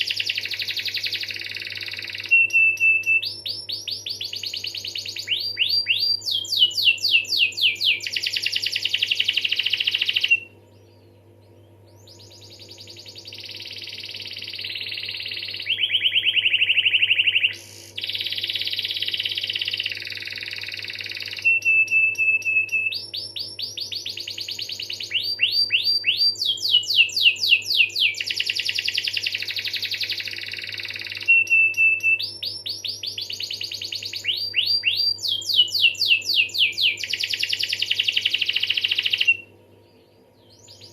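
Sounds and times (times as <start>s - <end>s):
canary singing: 0.0s - 40.9s
faint low hum: 0.0s - 40.9s.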